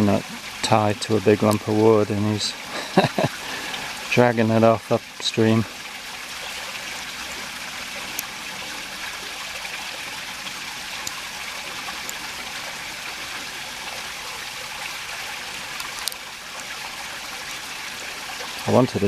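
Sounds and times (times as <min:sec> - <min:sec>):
creek water rushing: 0:00.0 - 0:19.0.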